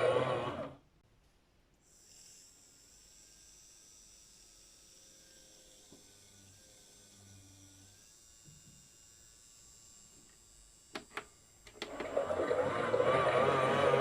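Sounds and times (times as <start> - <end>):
small motor running: 0.0 - 0.8, 1.9 - 14.0.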